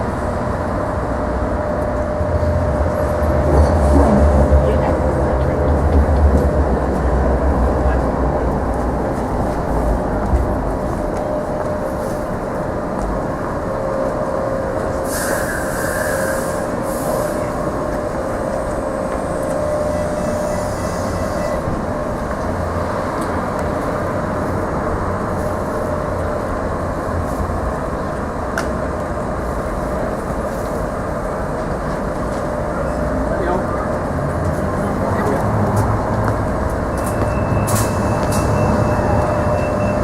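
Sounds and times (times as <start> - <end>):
tram wheel squeal: 0.0 - 28.1, 29.4 - 40.0
tram humming: 0.0 - 40.0.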